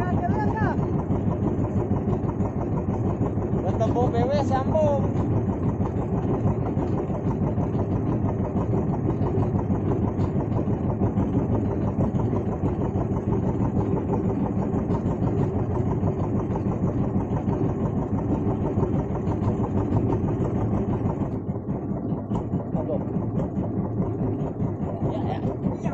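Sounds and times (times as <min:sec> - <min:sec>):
boat engine idling: 0:00.0 - 0:25.9.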